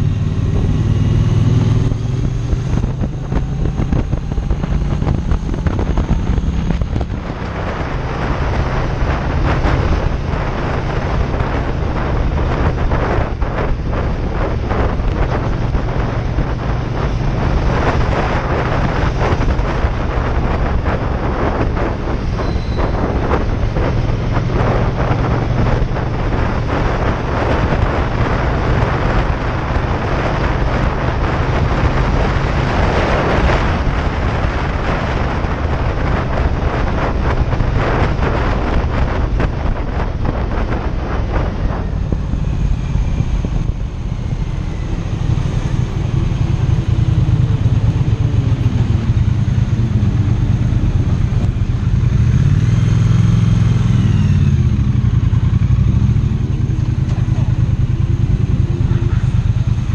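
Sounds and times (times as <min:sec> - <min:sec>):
motorcycle engine running: 0:00.0 - 0:59.9
wind rush over microphone: 0:00.0 - 0:59.9.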